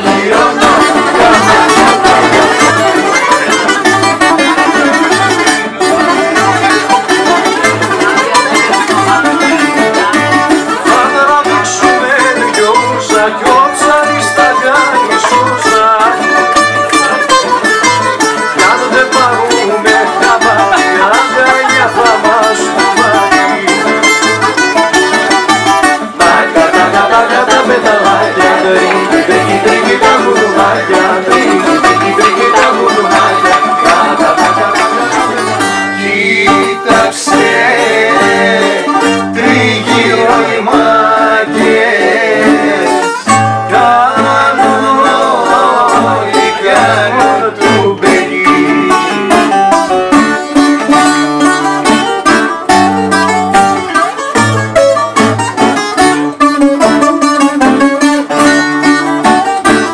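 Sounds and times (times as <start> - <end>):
voices singing: 0.0 - 24.4, 25.7 - 52.1
bouzouki plucked melody: 0.0 - 59.9
strummed guitar: 0.0 - 59.9.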